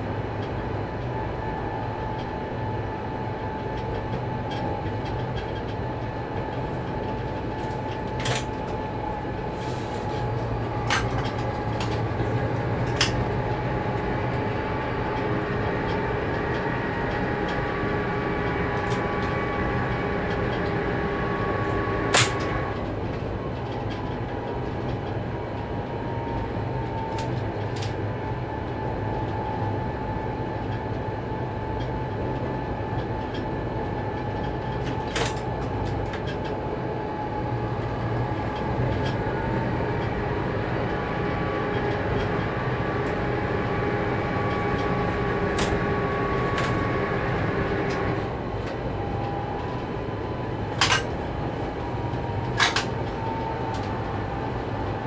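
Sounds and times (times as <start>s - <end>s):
diesel engine hum: 0.0s - 55.0s
engine whine: 0.0s - 55.0s.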